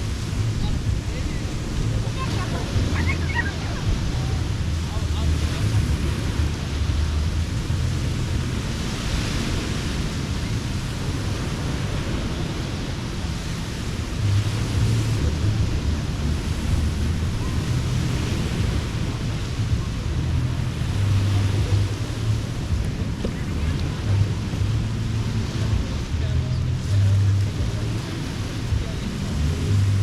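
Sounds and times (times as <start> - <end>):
steady low rumble: 0.0 - 30.0
surf washing in: 0.0 - 30.0.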